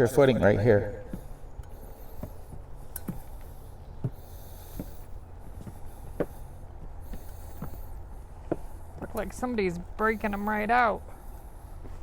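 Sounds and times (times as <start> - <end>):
footsteps on wooden boardwalk: 1.0 - 12.0.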